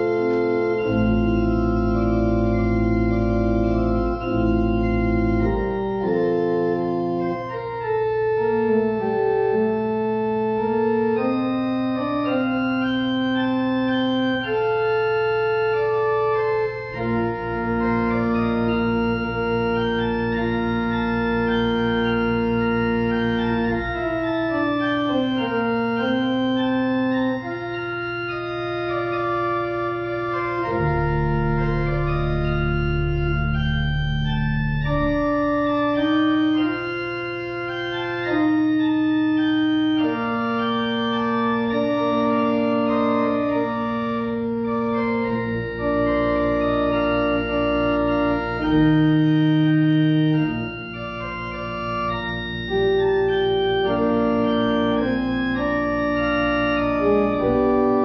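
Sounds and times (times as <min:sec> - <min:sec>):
church organ chords: 0:00.0 - 0:58.0
deep organ pedal notes: 0:00.0 - 0:58.0.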